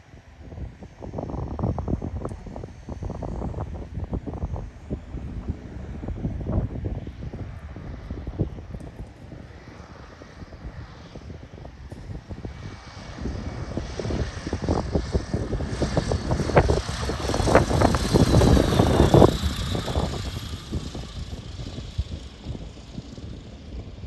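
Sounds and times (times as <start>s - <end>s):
propeller plane engine passing: 0.0s - 24.0s.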